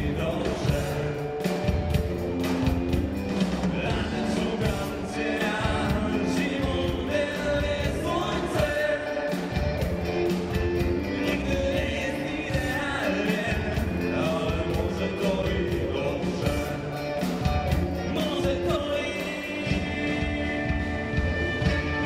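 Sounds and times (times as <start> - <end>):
man singing: 0.0 - 2.0, 3.6 - 22.0
rock band playing live: 0.0 - 22.0.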